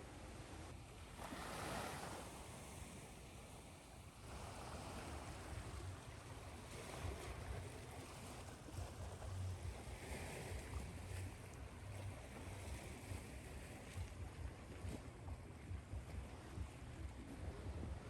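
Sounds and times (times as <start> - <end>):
ocean waves washing onto shore: 1.0 - 18.0.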